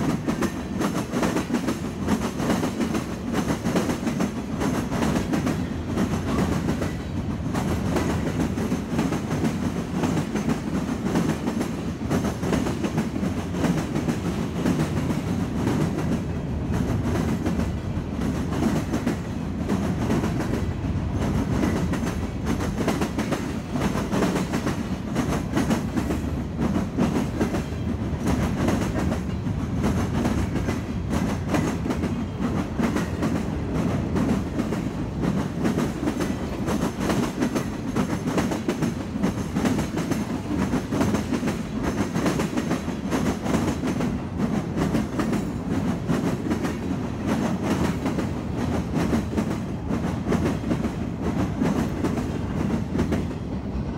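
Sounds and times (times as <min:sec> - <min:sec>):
train wheels rumbling on rails: 0:00.0 - 0:53.9
wheels clickety-clack over track: 0:00.0 - 0:53.9.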